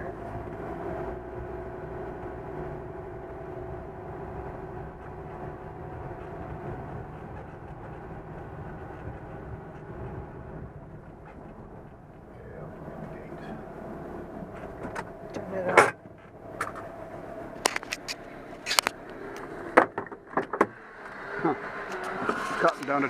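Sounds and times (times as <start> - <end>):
engine drone: 0.0 - 23.0
road noise: 0.0 - 23.0.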